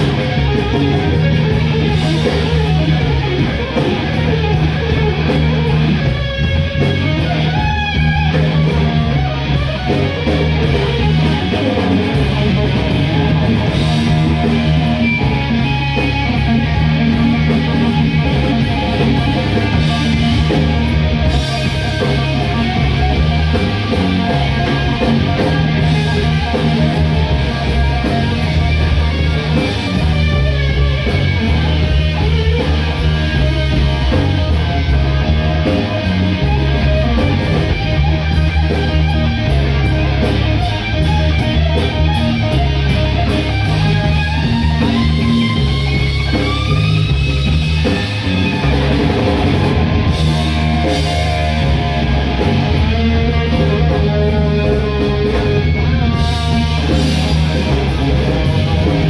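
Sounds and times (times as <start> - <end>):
bass guitar: 0.0 - 59.0
drums: 0.0 - 59.0
electric guitar: 0.0 - 59.0.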